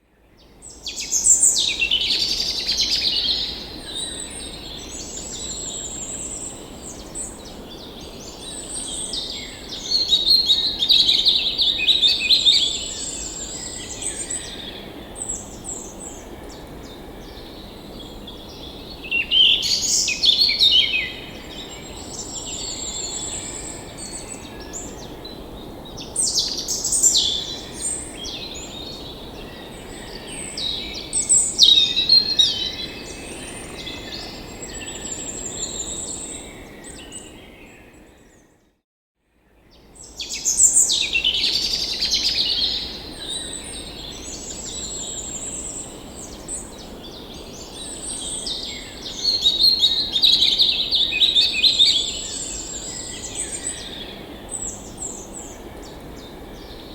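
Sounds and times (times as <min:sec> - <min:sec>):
songbirds singing: 0:00.2 - 0:38.8, 0:39.4 - 0:56.9.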